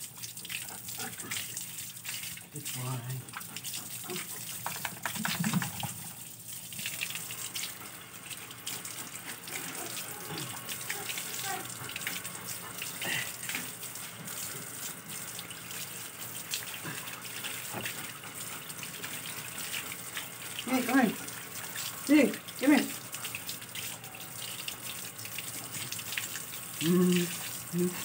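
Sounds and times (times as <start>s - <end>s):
water spattering on concrete: 0.0s - 28.0s
hose water hissing: 1.0s - 28.0s.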